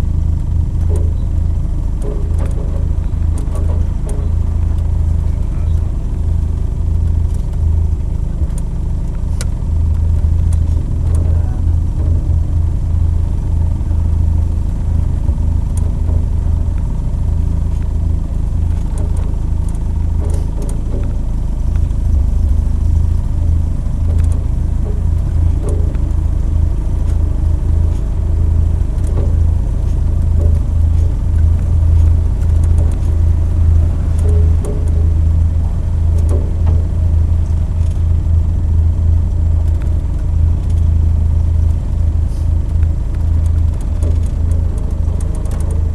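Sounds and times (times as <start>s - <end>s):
car engine droning: 0.0s - 45.9s.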